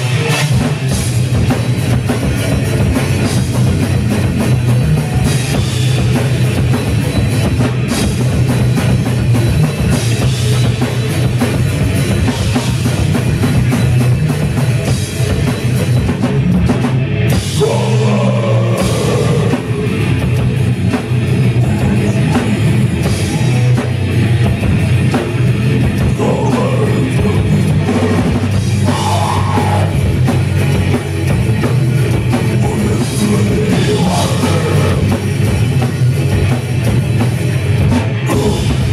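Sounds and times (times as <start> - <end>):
heavy metal band playing live: 0.0 - 38.9
pounding drum kit: 0.0 - 38.9.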